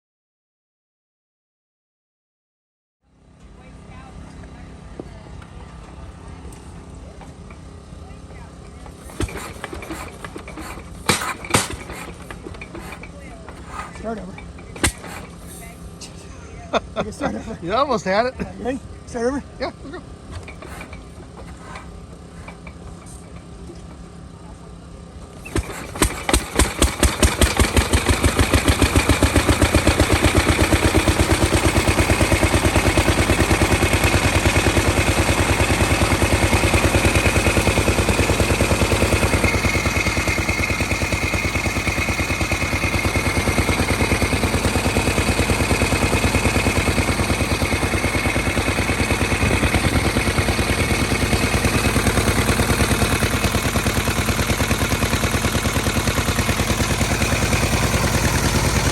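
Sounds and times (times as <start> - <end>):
pump engine starting and running: 5.4 - 58.9.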